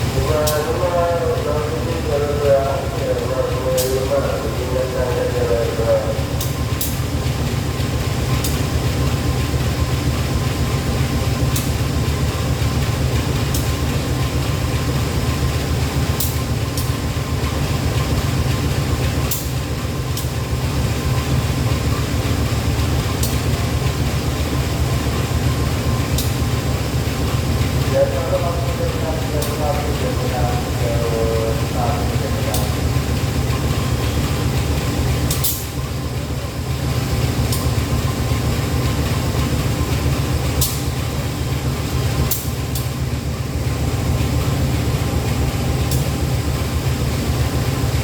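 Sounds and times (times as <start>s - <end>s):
locomotive engine humming: 0.0s - 48.0s.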